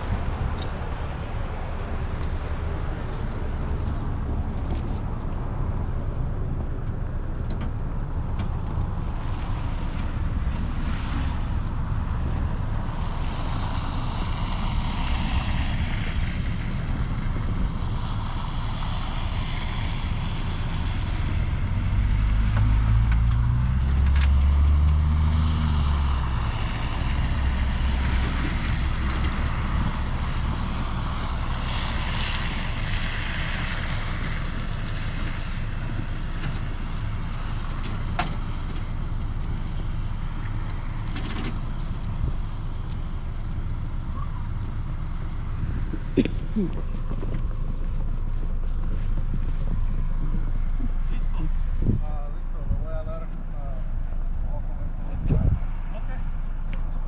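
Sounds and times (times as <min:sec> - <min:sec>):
truck engine running and revving: 0:00.0 - 0:52.6.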